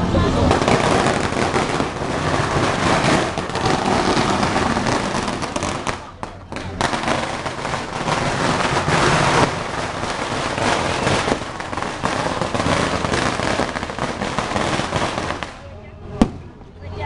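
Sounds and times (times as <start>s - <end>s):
firecrackers crackling: 0.0s - 16.8s.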